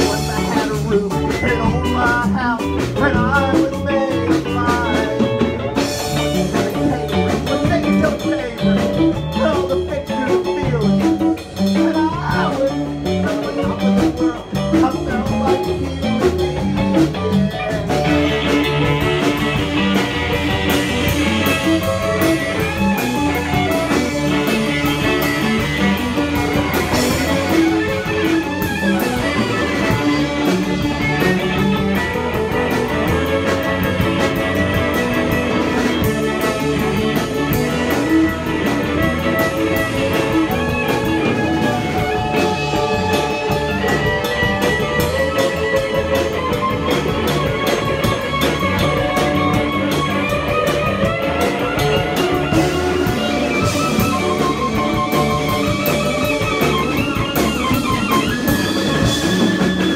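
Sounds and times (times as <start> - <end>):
punk band playing: 0.0 - 59.9.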